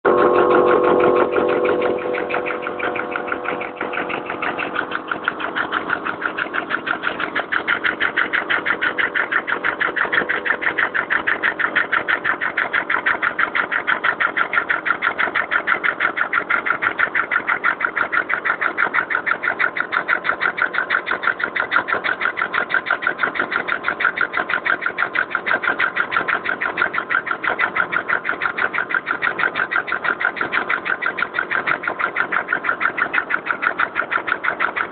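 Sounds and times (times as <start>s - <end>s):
motorcycle engine pulsing clatter: 0.0s - 34.9s.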